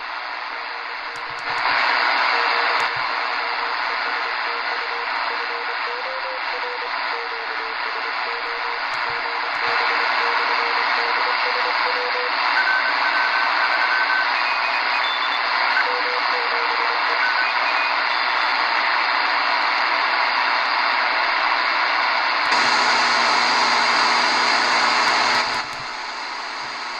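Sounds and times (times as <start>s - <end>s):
radio static hiss: 0.0s - 26.9s.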